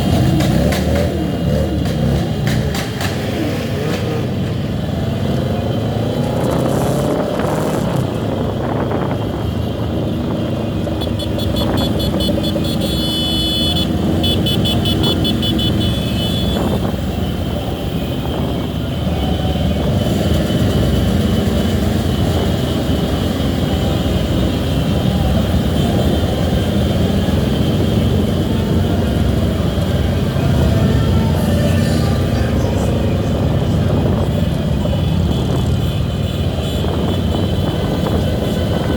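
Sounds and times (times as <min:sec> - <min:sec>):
traffic engines droning: 0:00.0 - 0:38.9.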